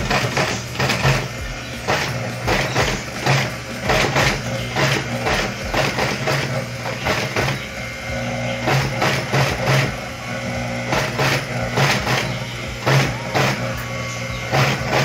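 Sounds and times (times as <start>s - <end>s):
sewing machine stitching: 0.0s - 7.7s, 8.5s - 15.0s
motor humming: 0.0s - 15.0s.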